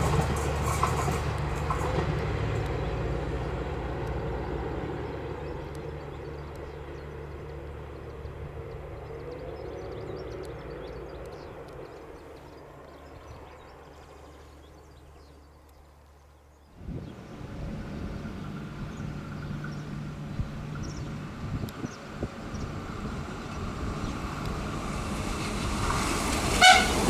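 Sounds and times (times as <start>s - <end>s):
diesel train engine drone: 0.0s - 16.1s, 16.7s - 27.0s.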